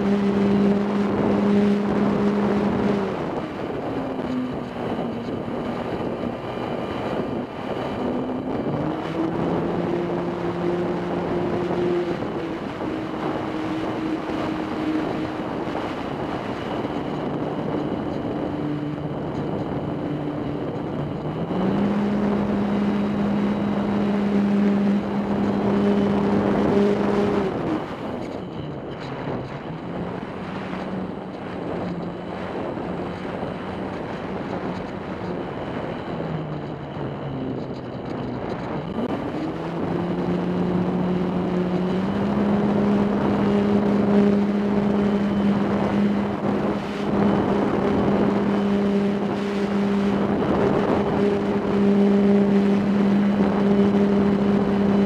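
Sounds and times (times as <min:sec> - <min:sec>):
model airplane motor droning: 0:00.0 - 0:55.0
wind rushing over microphone: 0:00.0 - 0:55.0.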